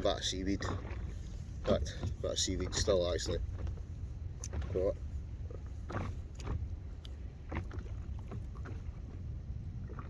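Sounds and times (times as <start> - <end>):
water lapping around a boat: 0.0 - 10.0
water splashes: 0.0 - 10.0
wind rumble on microphone: 0.0 - 10.0.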